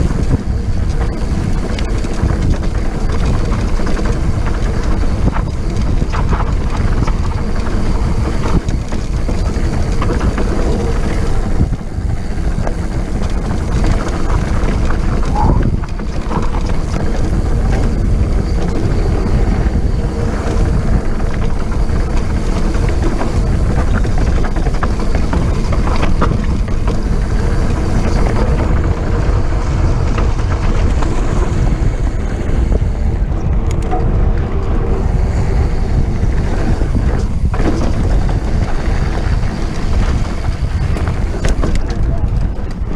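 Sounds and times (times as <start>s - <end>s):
tyres rolling on dirt trail: 0.0s - 42.9s
wind buffeting microphone: 0.0s - 42.9s.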